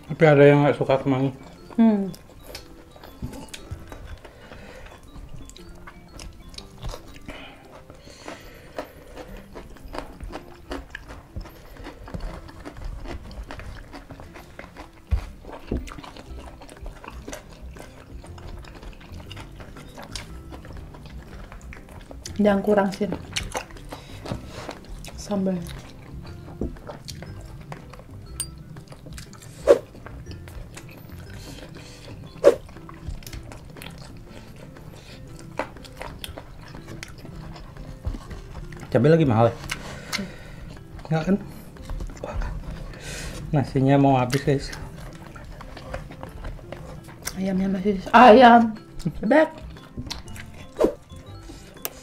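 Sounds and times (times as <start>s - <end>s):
quiet background music: 0.0s - 52.0s
chewing and mouth smacks: 1.4s - 41.1s, 41.7s - 43.5s, 44.2s - 48.1s, 48.7s - 52.0s.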